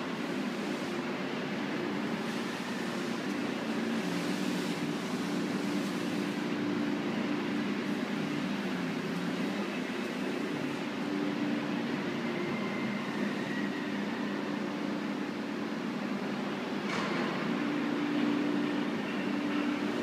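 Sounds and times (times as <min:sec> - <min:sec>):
machine hum of motors and fans: 0:00.0 - 0:20.0.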